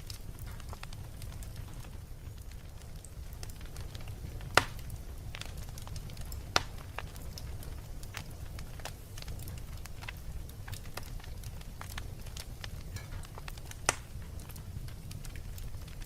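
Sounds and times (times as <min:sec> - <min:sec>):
fire crackling: 0:00.0 - 0:16.0
loud pops from fire: 0:00.0 - 0:16.0
wood fire rumbling: 0:00.0 - 0:16.0.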